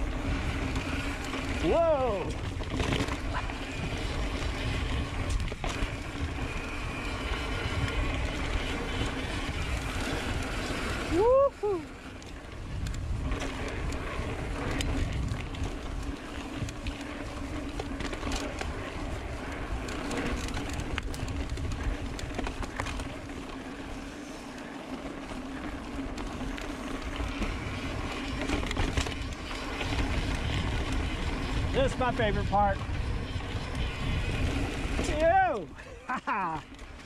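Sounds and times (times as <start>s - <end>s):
wind rumble: 0.0s - 35.8s
bike clicks and rattles: 0.0s - 37.0s
tyres over dirt and rock: 0.0s - 37.0s.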